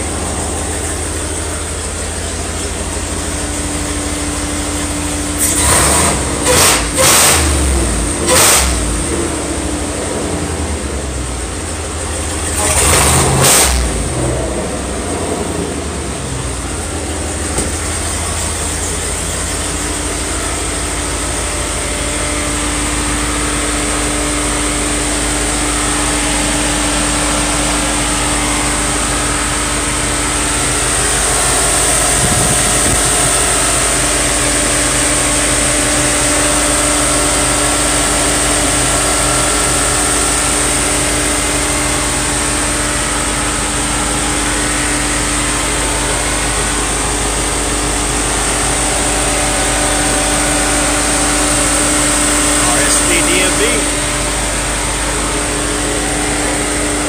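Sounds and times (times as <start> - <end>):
car engine idling: 0.0 - 57.0
high engine whine: 0.0 - 57.0.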